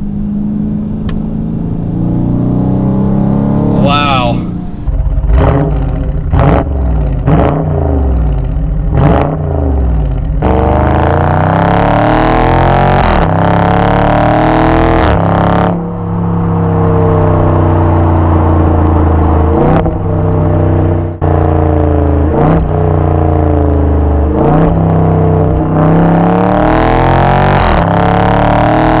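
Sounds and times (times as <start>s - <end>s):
car exhaust revving: 0.0s - 29.0s.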